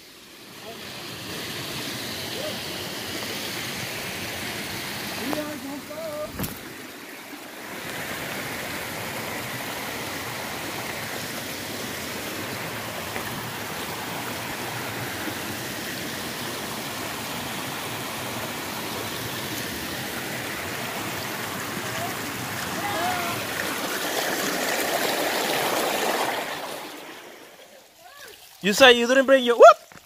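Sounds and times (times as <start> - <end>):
stream splashing over boulders: 0.0 - 30.0.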